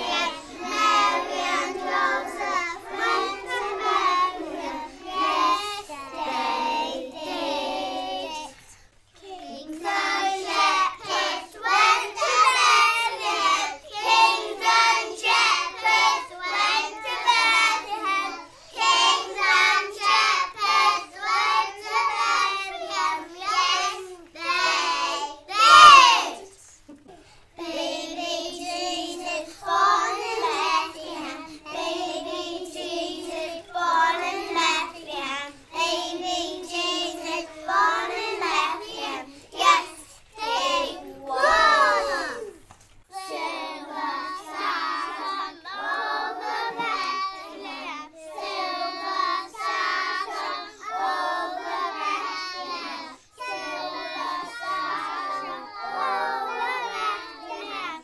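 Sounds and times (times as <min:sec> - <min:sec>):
children singing in unison: 0:00.0 - 0:58.0.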